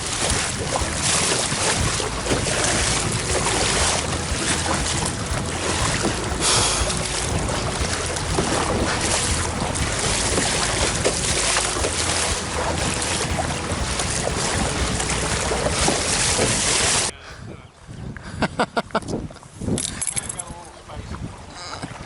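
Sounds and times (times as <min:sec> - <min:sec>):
choppy water against kayak: 0:00.0 - 0:18.1, 0:19.1 - 0:22.0
wind blasting over microphone: 0:00.0 - 0:22.0.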